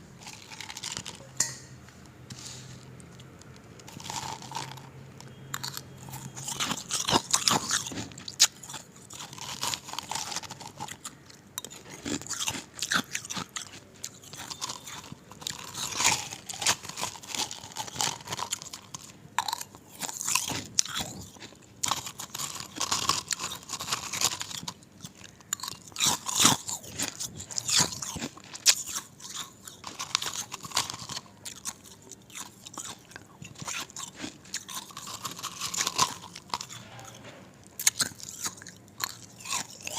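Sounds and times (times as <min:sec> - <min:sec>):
ice being chewed: 0:00.0 - 0:01.6, 0:02.3 - 0:39.9.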